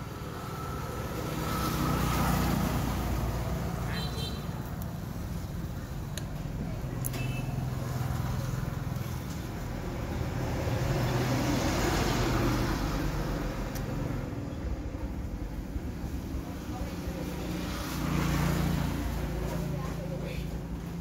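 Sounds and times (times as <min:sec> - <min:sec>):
motor vehicle passing: 0:00.0 - 0:05.8, 0:07.5 - 0:21.0.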